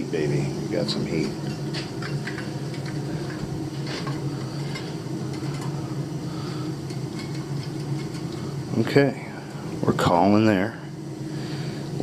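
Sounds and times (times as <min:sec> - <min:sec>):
boiler burner humming: 0:00.0 - 0:12.0.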